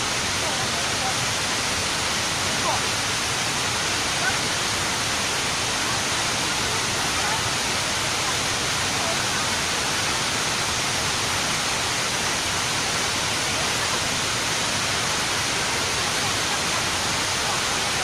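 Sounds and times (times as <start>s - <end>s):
rushing whitewater: 0.0s - 18.0s.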